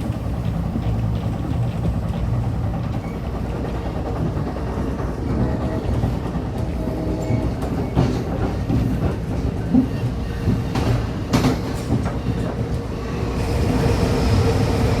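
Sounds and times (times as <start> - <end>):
train wheel clicks: 0.0 - 12.9
train rumbling on rails: 0.0 - 15.0.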